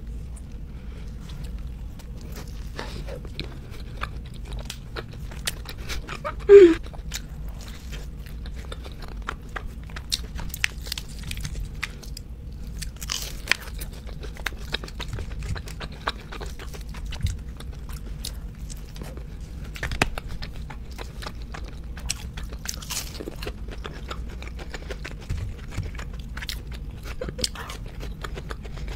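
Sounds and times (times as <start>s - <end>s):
chewing and crunching food: 0.0s - 28.9s.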